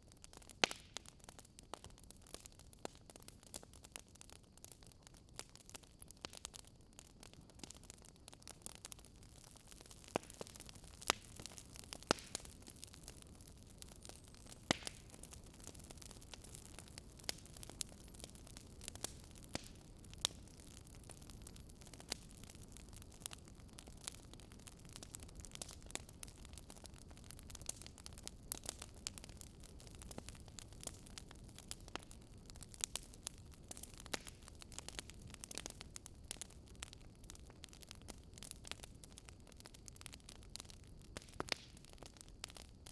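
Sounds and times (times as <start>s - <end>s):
low rumble of burning: 0.0s - 42.9s
wood fire pops and snaps: 0.3s - 1.0s, 7.2s - 42.9s.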